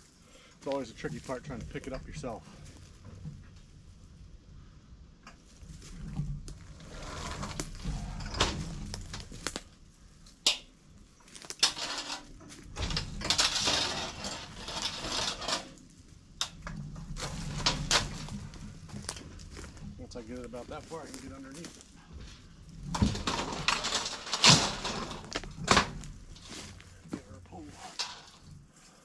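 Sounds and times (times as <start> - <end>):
rustling: 0.0 - 29.0.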